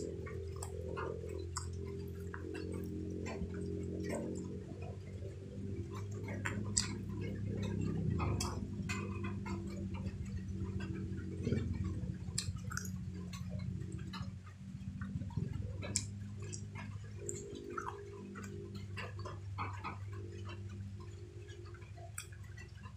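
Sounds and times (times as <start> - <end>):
low hum: 0.0 - 22.9
wet chewing sounds: 0.0 - 22.9.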